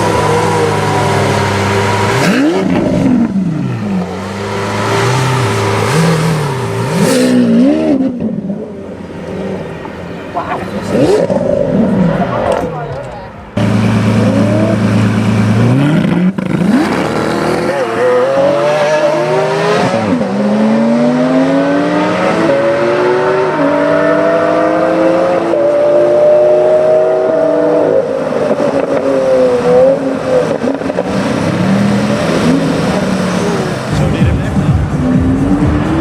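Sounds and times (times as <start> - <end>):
car engine accelerating hard: 0.0 - 9.7, 13.6 - 36.0.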